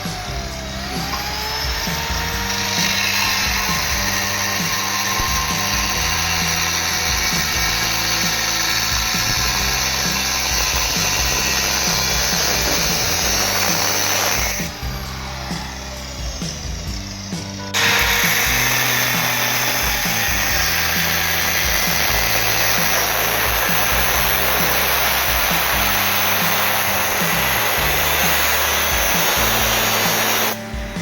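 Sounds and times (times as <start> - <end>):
angle grinder cutting metal: 0.0 - 31.0
background music: 0.0 - 31.0.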